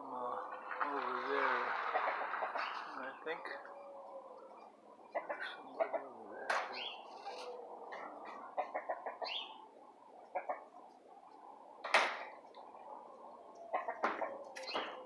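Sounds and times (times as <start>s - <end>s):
chickens clucking: 0.3s - 15.0s.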